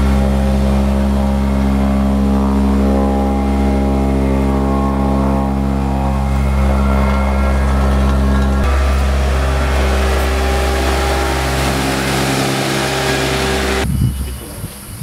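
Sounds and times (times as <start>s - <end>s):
diesel roller engine passing: 0.0s - 13.8s.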